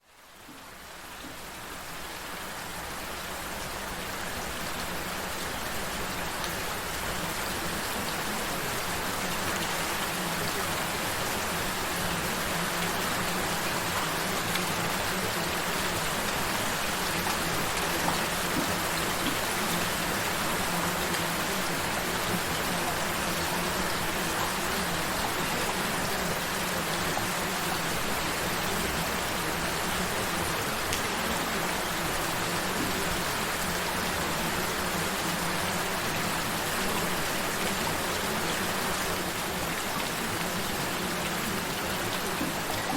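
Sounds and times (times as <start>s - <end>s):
gentle rain patter: 0.0s - 42.9s.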